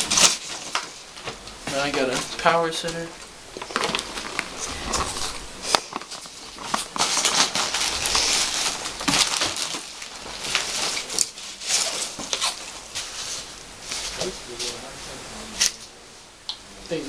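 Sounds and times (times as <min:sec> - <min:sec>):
packing material crinkling: 0:00.0 - 0:15.0.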